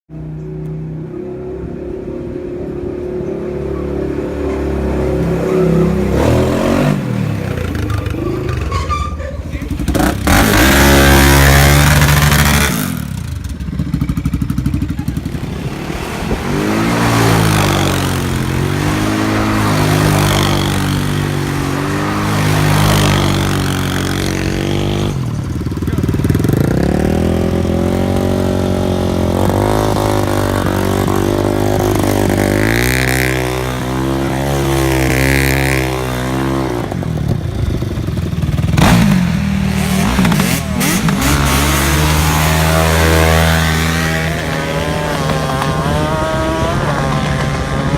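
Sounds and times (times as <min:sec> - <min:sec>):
off-road engine revving: 0:02.7 - 0:08.9, 0:09.5 - 0:47.9.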